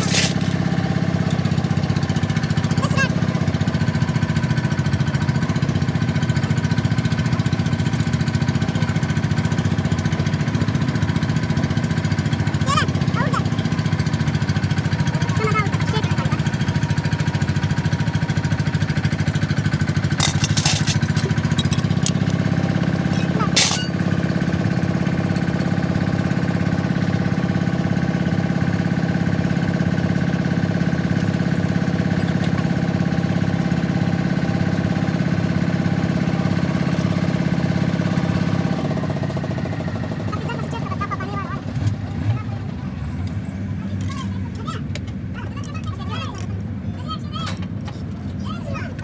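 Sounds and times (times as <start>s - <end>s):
engine running: 0.0s - 49.0s.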